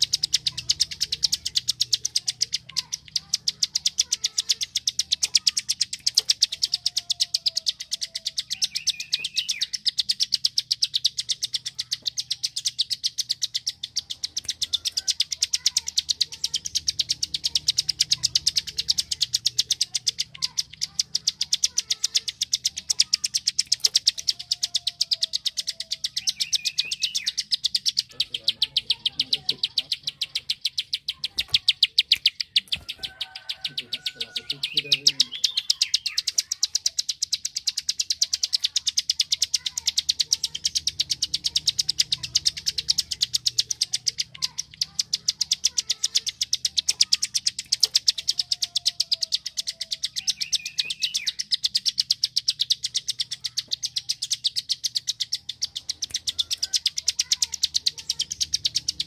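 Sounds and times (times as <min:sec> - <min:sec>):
bird chirping: 0:00.0 - 0:59.0
bird clicking call: 0:00.0 - 0:59.0.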